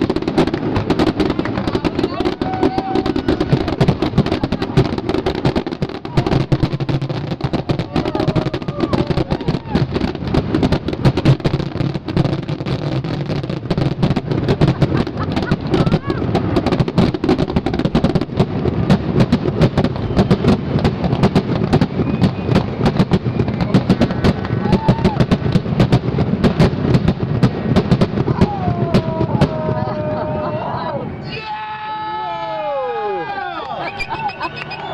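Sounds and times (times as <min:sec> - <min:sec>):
fireworks cracking and booming: 0:00.0 - 0:31.2, 0:33.9 - 0:34.9.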